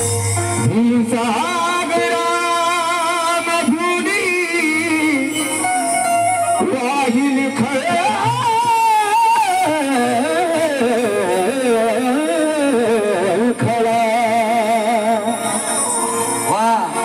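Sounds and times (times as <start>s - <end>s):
harmonium: 0.0s - 17.0s
man singing melismatic phrase: 0.6s - 5.7s, 6.4s - 15.4s.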